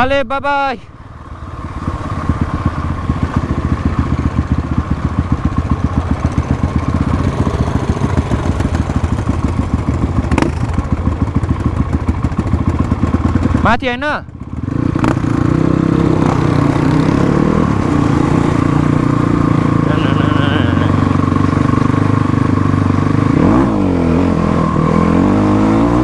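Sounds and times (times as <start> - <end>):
motorcycle engine running: 0.9 - 26.0.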